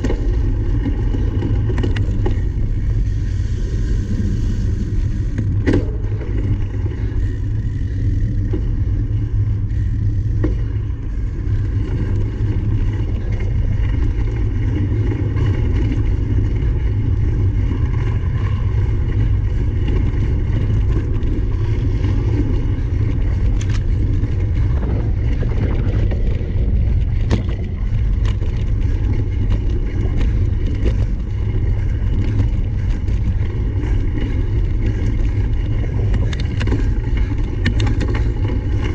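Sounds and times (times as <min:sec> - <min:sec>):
bike rattling: 0:00.0 - 0:38.9
wind rumble on microphone: 0:00.0 - 0:38.9.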